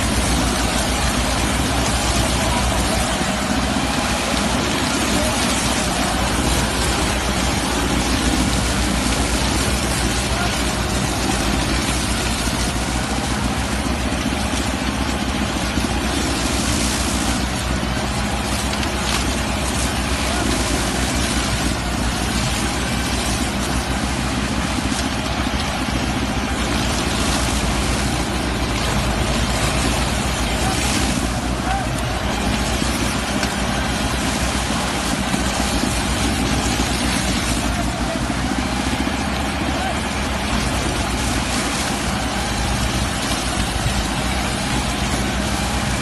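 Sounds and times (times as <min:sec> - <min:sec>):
harvester engine rumble: 0:00.0 - 0:46.0
machinery noise: 0:00.0 - 0:46.0.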